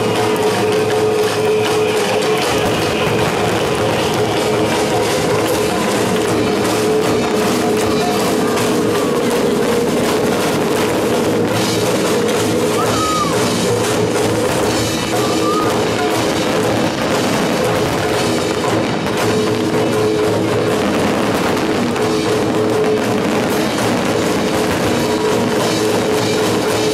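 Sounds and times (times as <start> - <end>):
drum kit: 0.0 - 26.9
live rock music: 0.0 - 26.9.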